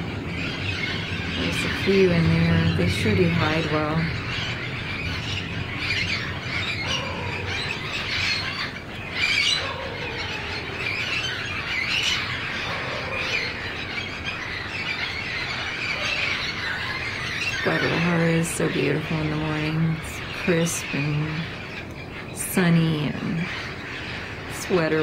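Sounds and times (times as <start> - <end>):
parrots squawking and screeching: 0.0 - 22.4, 23.2 - 25.0.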